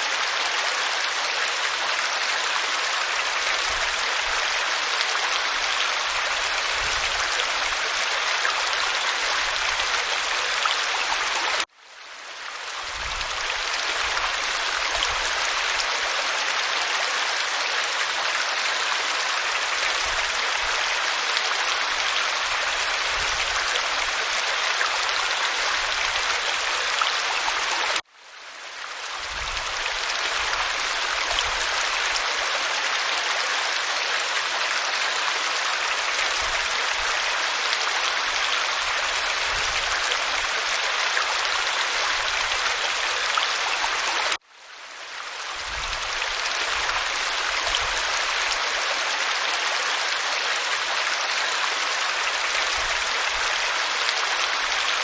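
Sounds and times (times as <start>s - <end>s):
waterfall pouring over rock: 0.0s - 11.7s, 12.3s - 28.1s, 28.8s - 44.4s, 45.0s - 55.0s.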